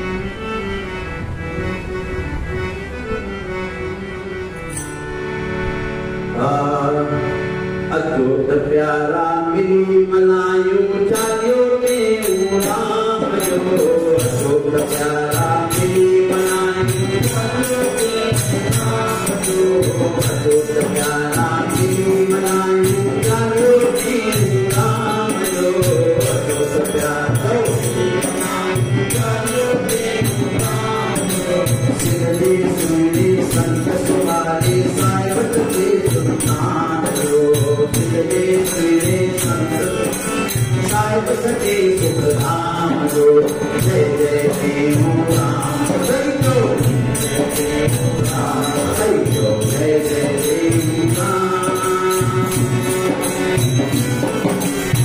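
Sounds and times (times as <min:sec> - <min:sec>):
harmonium playing devotional tune: 0:00.0 - 0:55.0.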